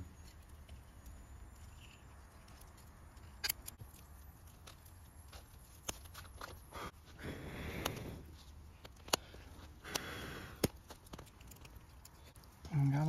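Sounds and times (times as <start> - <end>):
campfire crackles: 0.0 - 13.0.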